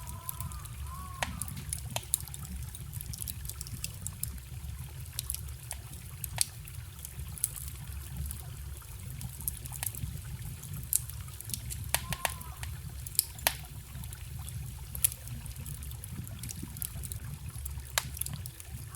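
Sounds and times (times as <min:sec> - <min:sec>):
trickling stream: 0:00.0 - 0:18.9
wood fire crackling: 0:00.0 - 0:18.9.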